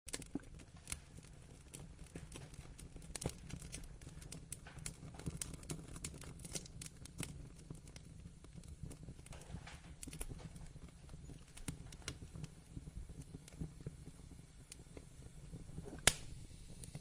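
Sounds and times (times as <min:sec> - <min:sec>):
low rumble of flame: 0:00.1 - 0:17.0
wood fire crackling and popping: 0:00.1 - 0:17.0.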